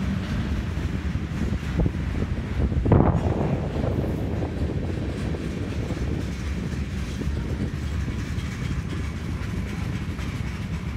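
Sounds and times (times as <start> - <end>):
freight cars rolling past: 0.0 - 10.9.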